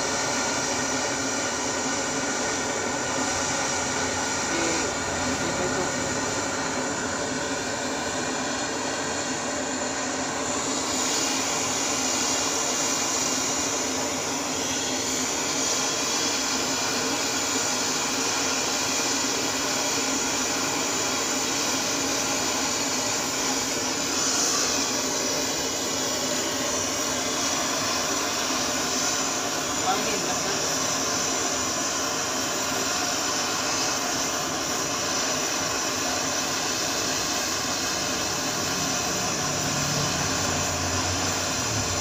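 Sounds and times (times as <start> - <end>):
butane torch hissing: 0.0 - 42.0.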